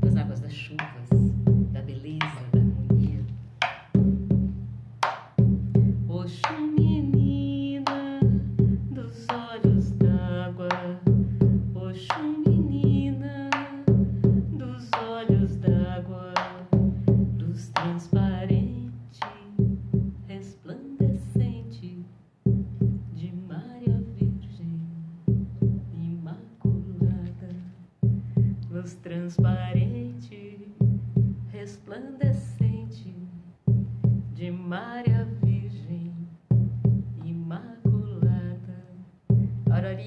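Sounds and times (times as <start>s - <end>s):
woman singing slow melody: 0.0s - 3.3s, 5.7s - 22.2s, 23.1s - 33.7s, 34.3s - 36.5s, 37.2s - 40.0s
frame drum beating: 0.0s - 21.7s, 22.5s - 30.2s, 30.8s - 31.6s, 32.2s - 33.0s, 33.6s - 35.9s, 36.5s - 40.0s.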